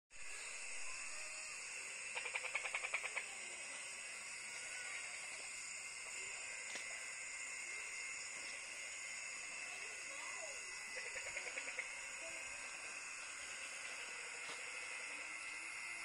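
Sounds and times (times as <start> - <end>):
night insects chirring: 0.2 - 16.0.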